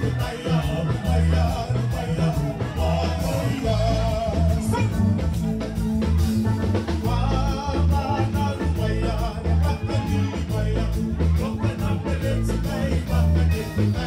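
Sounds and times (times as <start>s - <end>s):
men singing into microphones: 0.0s - 5.4s, 6.8s - 14.0s
drum kit: 0.0s - 14.0s
electric guitar: 0.0s - 14.0s
keyboard: 0.0s - 14.0s.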